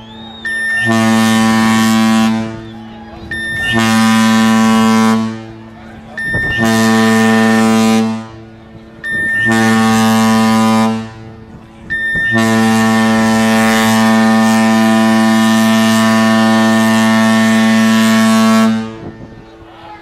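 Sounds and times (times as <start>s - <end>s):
deep ship horn blasts: 0.0s - 19.7s.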